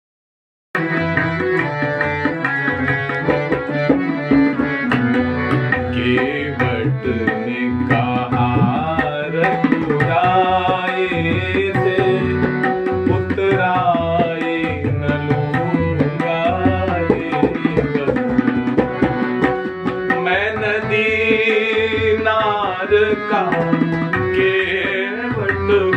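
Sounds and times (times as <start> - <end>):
tabla drumming: 0.8 - 25.9.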